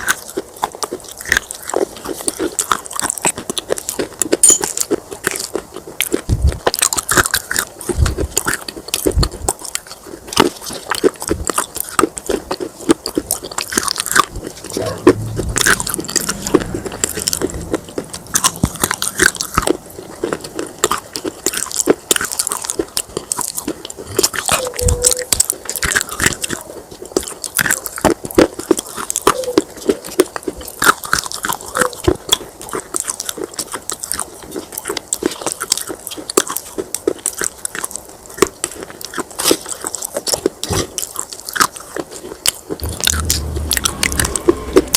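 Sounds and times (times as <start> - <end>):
clay pieces crunching in chewing: 0.0 - 44.9.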